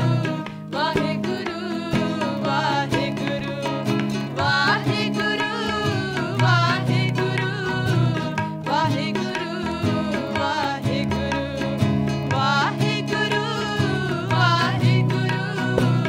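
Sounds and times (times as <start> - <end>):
plucked strings: 0.0 - 16.0
tabla strokes: 0.0 - 16.0
voices singing: 0.0 - 16.0.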